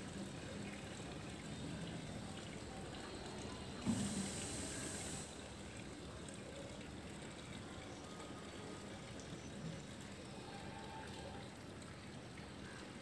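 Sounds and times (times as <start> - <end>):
hissing outdoor background noise: 0.0 - 13.0.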